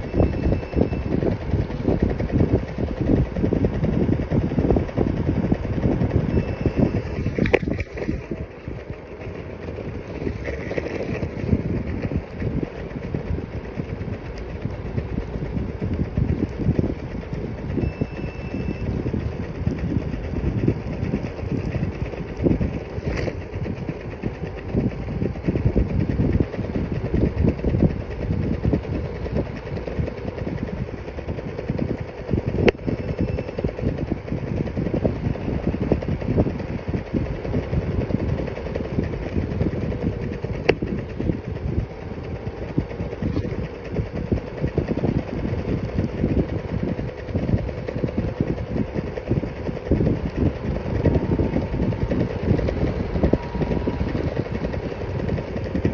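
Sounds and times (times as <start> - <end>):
scooter wheels rumbling on asphalt: 0.0 - 55.9
steady hum: 0.0 - 55.9.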